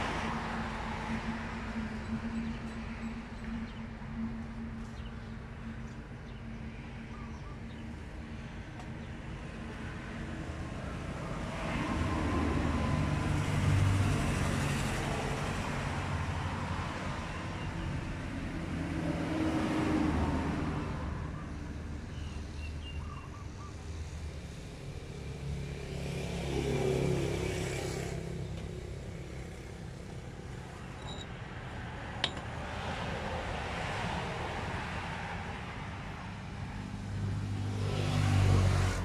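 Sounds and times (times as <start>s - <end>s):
vehicles passing: 0.0s - 22.6s, 23.5s - 39.0s.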